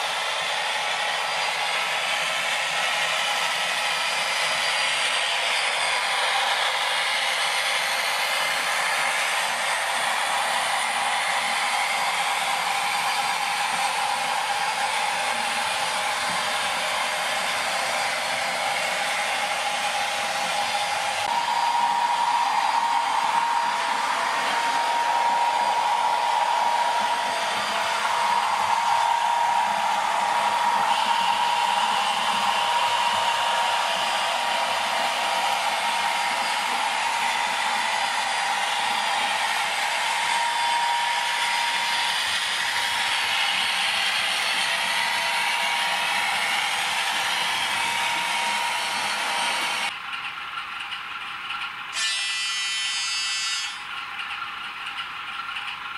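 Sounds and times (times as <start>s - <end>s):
model train whine: 0.0s - 55.9s
model trains whirring: 0.0s - 55.9s
tinny hissing locomotive drone: 0.0s - 55.9s.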